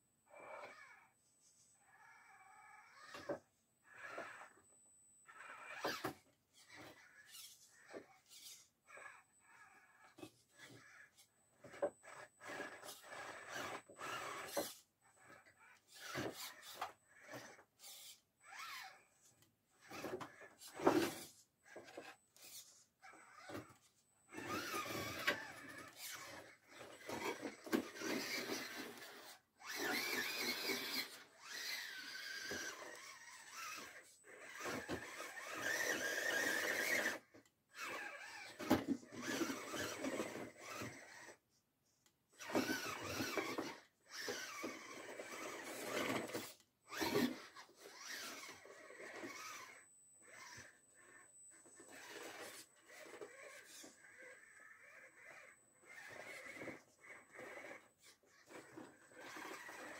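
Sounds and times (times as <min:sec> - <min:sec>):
toy car electric motor whining: 0:00.2 - 0:59.9.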